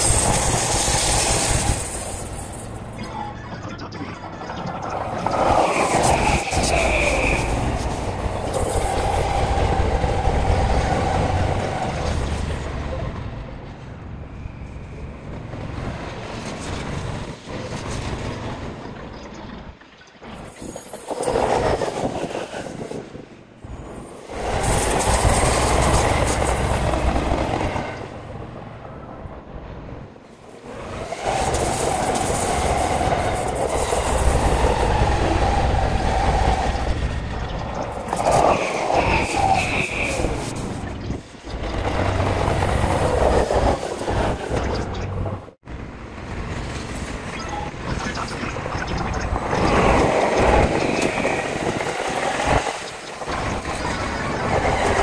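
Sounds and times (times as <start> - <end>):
electric trains clickety-clack: 0.0 - 55.0.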